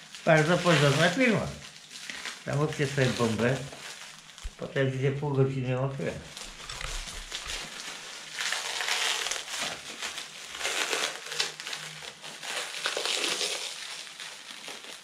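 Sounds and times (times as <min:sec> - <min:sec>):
plastic wrapping crinkling: 0:00.0 - 0:05.2, 0:06.0 - 0:15.0.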